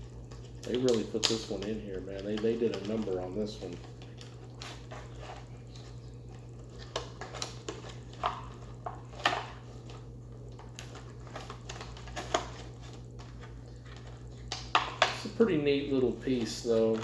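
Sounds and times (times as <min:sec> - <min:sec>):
plastic and cardboard crinkling: 0:00.0 - 0:17.0
steady low hum: 0:00.0 - 0:17.0.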